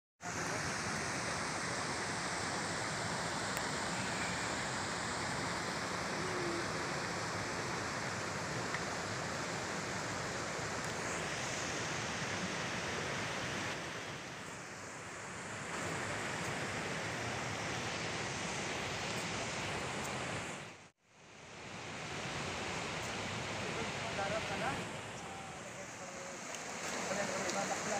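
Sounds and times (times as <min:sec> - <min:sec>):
rushing outdoor noise: 0:00.2 - 0:27.9.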